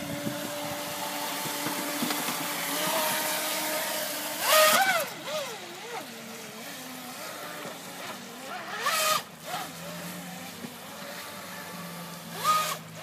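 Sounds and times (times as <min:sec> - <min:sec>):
rc boat electric motor whining: 0:00.0 - 0:13.0.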